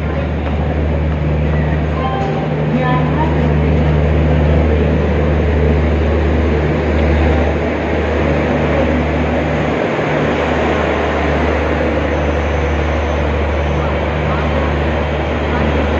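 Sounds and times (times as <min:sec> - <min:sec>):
train coaches rumbling past: 0:00.0 - 0:15.9.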